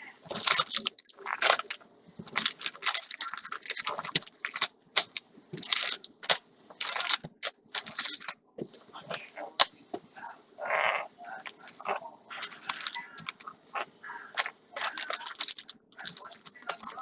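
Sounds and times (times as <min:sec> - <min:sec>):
packaging crinkling: 0:00.3 - 0:10.4, 0:11.2 - 0:17.0.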